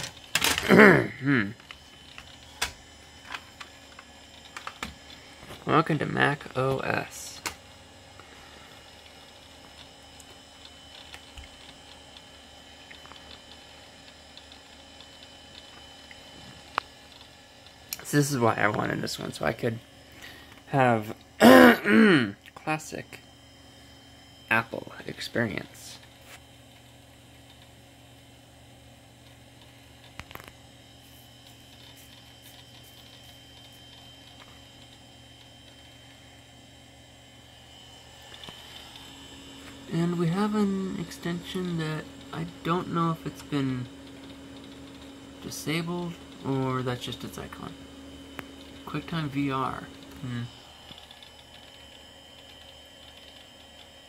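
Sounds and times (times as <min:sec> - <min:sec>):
hard drive ticking: 0:00.0 - 0:21.4, 0:22.4 - 0:54.0
faint high whine: 0:00.0 - 0:54.0
steady machine hum: 0:00.0 - 0:54.0.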